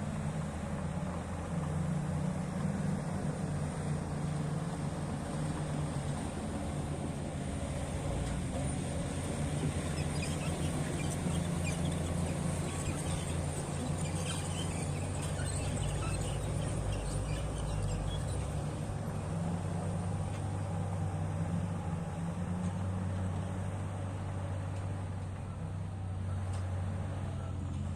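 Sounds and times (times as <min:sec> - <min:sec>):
diesel engine droning: 0:00.0 - 0:27.9.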